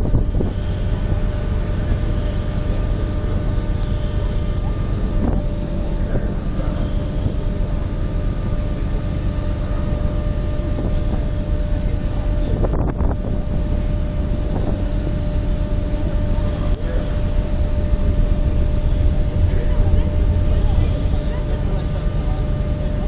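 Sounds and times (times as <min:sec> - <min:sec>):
ferry engines humming: 0:00.0 - 0:23.0
wind buffeting microphone: 0:00.0 - 0:23.0.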